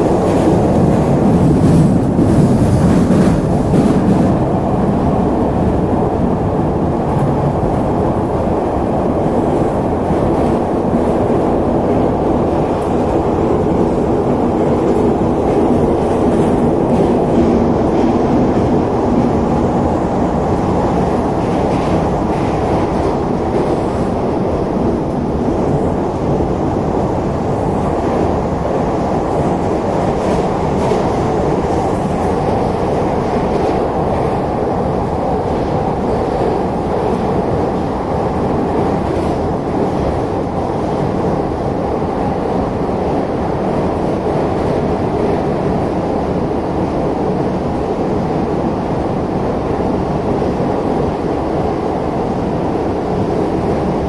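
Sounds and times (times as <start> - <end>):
train drive hum: 0.0 - 54.0
train wheels rumbling in tunnel: 0.0 - 54.0.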